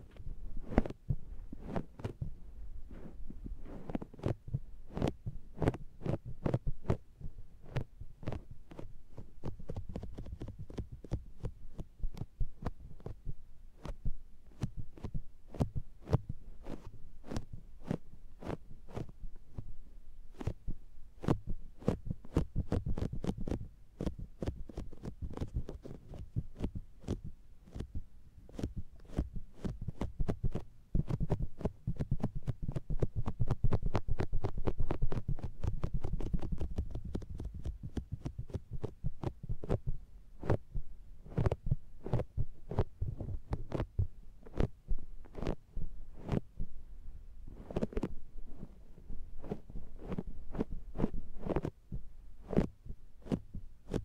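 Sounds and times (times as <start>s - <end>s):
sponge patting microphone: 0.0s - 54.0s.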